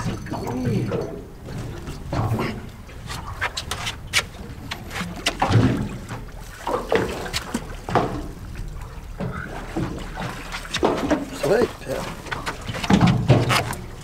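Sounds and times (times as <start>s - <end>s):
fishing gear clicks and knocks: 0.0s - 8.5s, 9.2s - 14.0s
water lapping at hull: 0.0s - 14.0s.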